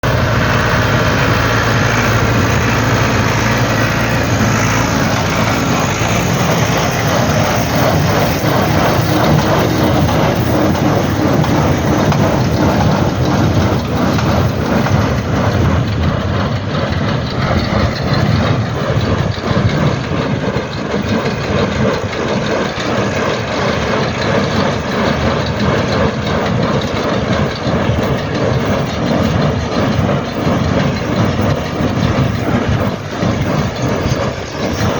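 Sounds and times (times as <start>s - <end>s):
tractor engine under load: 0.0s - 34.9s
baler mechanism clattering: 0.1s - 34.9s.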